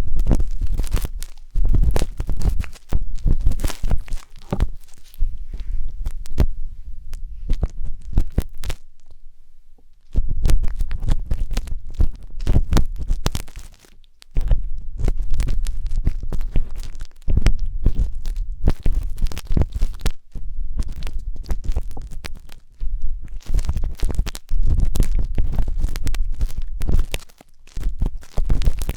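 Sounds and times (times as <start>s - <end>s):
wooden skewer scraping microphone: 0.0s - 8.9s, 10.1s - 28.9s.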